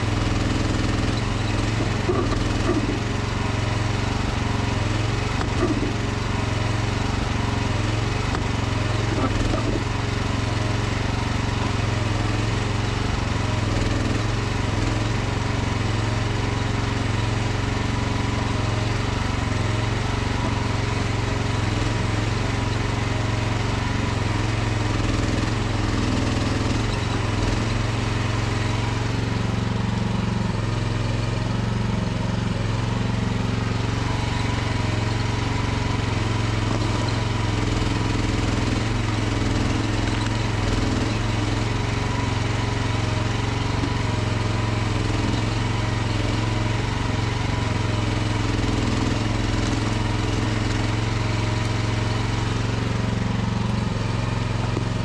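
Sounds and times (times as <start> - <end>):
mini excavator engine running: 0.0 - 55.0.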